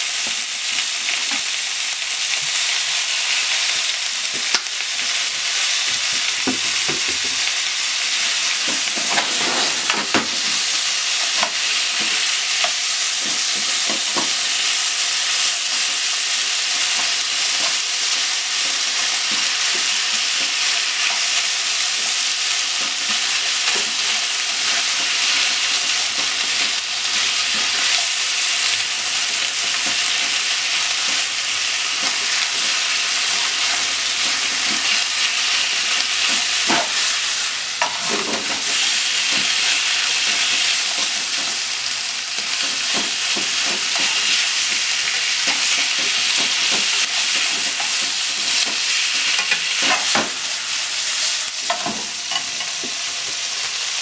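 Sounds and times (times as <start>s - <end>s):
meat and onion sizzling in a pan: 0.0s - 54.0s.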